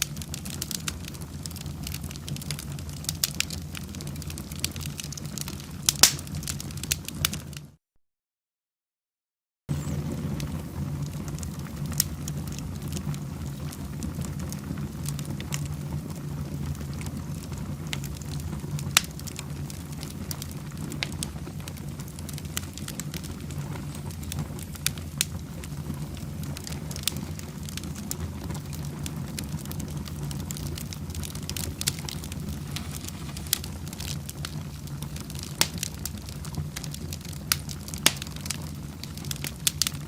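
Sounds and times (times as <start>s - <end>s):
fire flames rumbling: 0.0s - 7.8s, 9.7s - 40.0s
logs crackling and popping: 0.0s - 7.8s, 9.7s - 40.0s.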